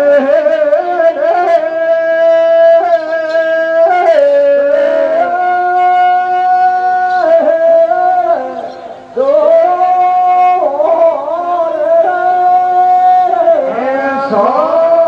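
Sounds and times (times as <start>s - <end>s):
folk singing with long high notes: 0.0s - 15.0s.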